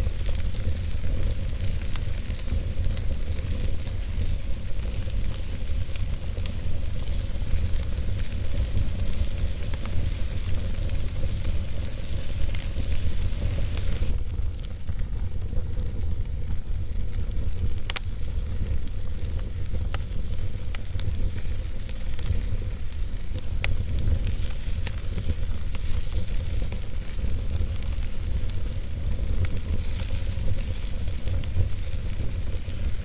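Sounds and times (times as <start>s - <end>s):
fire crackling in fireplace: 0.0s - 33.0s.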